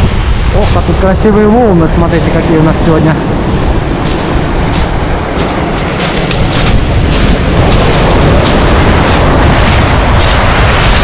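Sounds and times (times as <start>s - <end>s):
surf rumbling on pebble beach: 0.0s - 11.0s.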